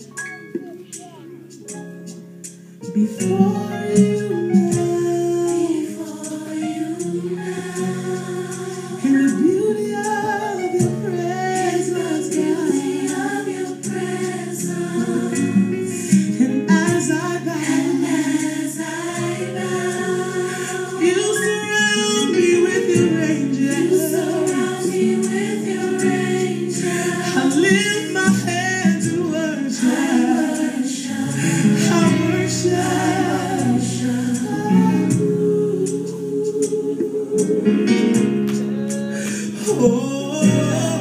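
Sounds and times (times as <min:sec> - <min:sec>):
group of voices singing: 0:03.2 - 0:41.0.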